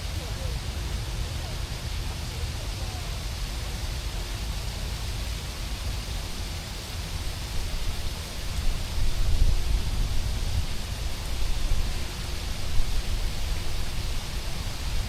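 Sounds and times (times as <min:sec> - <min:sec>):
low continuous rumble: 0:00.0 - 0:15.0
rain hissing: 0:00.0 - 0:15.0
wet city street ambience: 0:00.0 - 0:15.0.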